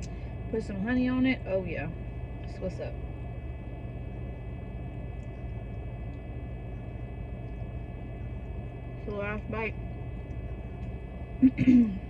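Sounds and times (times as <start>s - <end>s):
faint high whine: 0.0s - 12.0s
machine hum: 0.0s - 12.0s.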